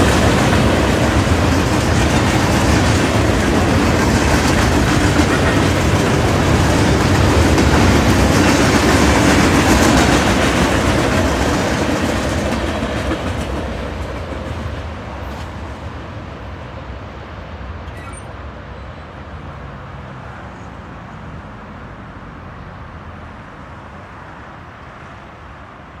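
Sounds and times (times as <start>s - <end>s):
train cars rumbling on rails: 0.0s - 26.0s.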